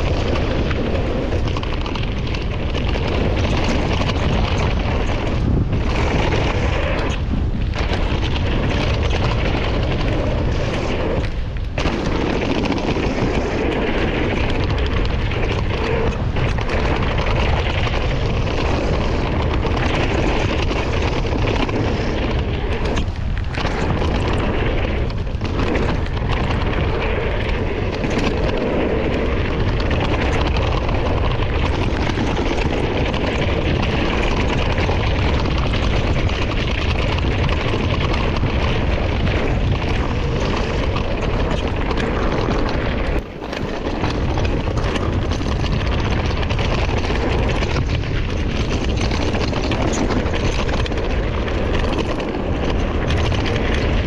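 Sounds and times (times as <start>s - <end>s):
bike rumbling and rattling: 0.0s - 54.0s
wind buffeting microphone: 0.0s - 54.0s.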